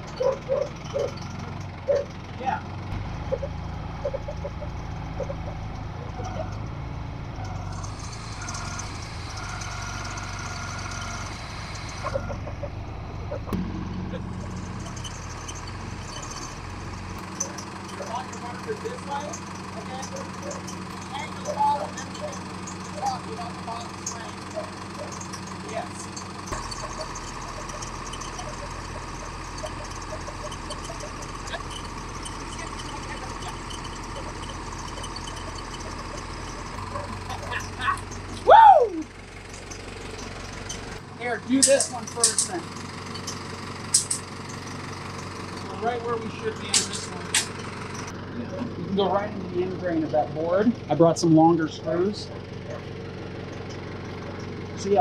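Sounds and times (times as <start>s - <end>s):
telehandler engine running: 0.0s - 55.0s.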